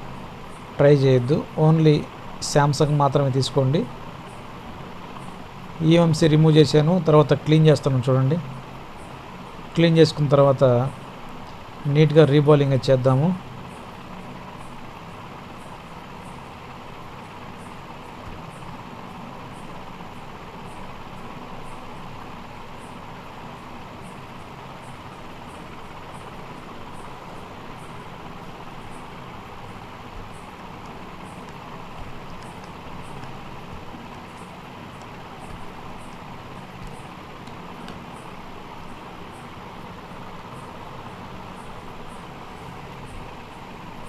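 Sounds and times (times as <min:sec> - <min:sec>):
fan air hiss: 0:00.0 - 0:44.0
low electrical hum: 0:00.0 - 0:44.0.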